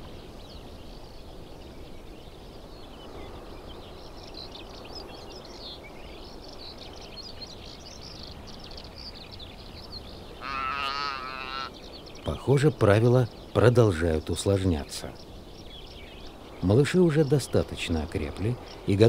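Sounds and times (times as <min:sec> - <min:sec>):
low wind rumble: 0:00.0 - 0:19.0
small birds chirping: 0:00.0 - 0:19.0.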